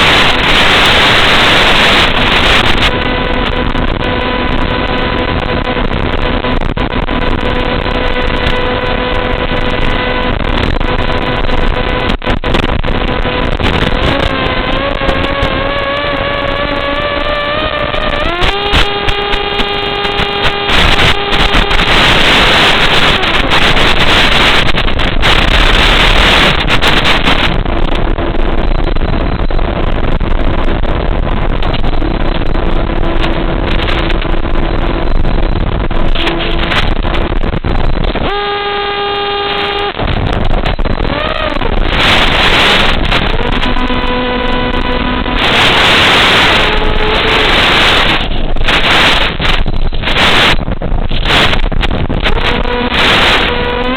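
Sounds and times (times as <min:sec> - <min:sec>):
loud rushing noise: 0:00.0 - 0:17.2, 0:18.2 - 0:53.9
model airplane motor: 0:00.0 - 0:28.4, 0:31.6 - 0:53.9.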